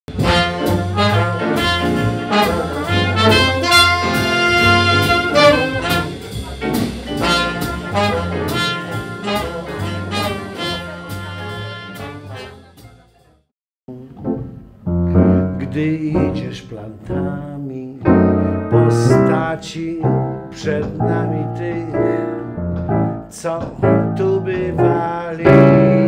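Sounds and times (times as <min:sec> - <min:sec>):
jazz music with brass: 0:00.1 - 0:13.5, 0:18.1 - 0:26.0.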